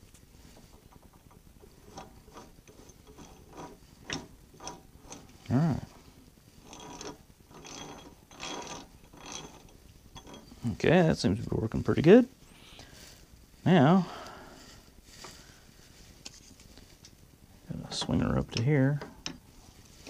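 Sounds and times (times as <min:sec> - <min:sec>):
gear train meshing rattle: 0:00.0 - 0:20.0.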